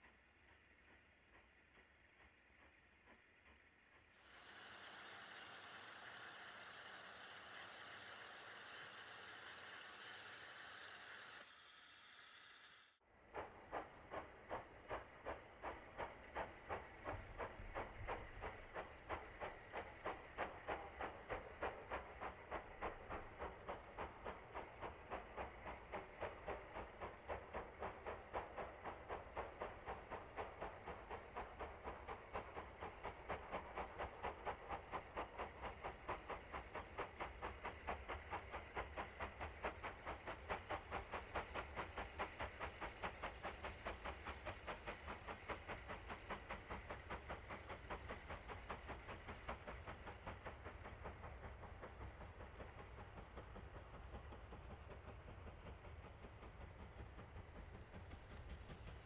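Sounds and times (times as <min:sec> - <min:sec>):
low rumble of moving train: 0:00.0 - 0:59.0
steam locomotive exhaust beats: 0:00.0 - 0:59.0.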